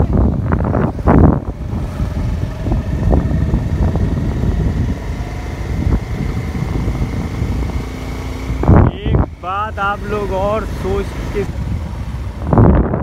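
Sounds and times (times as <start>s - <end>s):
engine and road noise inside vehicle: 0.0s - 13.0s.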